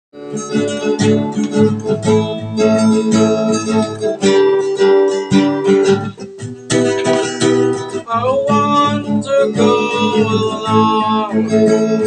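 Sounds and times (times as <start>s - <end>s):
acoustic guitar strumming: 0.2s - 12.0s.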